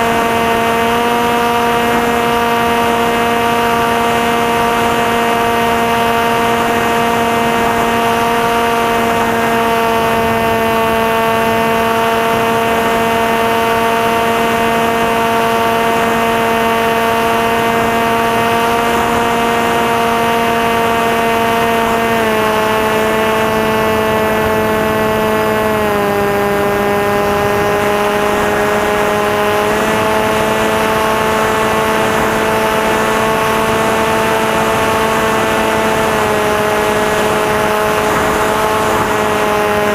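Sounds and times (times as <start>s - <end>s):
electric motor and propeller humming: 0.0s - 39.9s.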